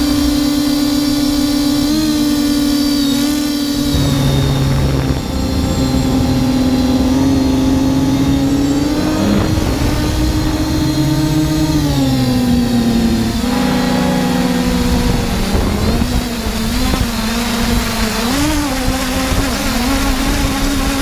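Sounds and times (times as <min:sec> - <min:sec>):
drone propellers whining: 0:00.0 - 0:21.0
steady rushing noise: 0:00.0 - 0:21.0.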